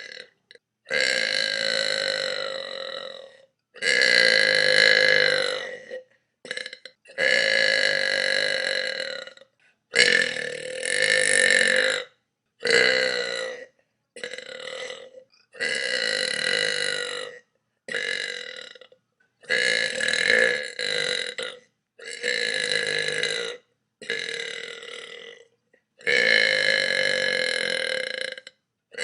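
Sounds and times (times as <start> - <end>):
woman burping loudly: 0.0 - 29.0.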